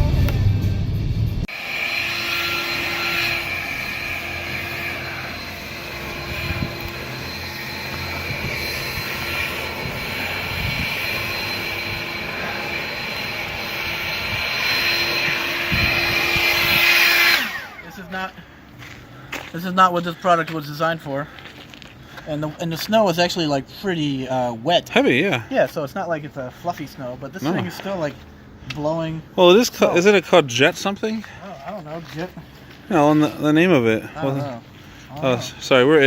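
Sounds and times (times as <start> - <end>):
jet blower whining: 1.4 - 18.8, 22.3 - 36.0.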